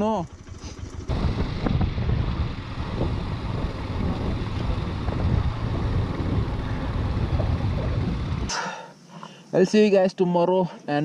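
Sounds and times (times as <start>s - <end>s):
motorcycle engine: 0.0s - 8.8s
wind and road noise rumble: 0.0s - 8.8s.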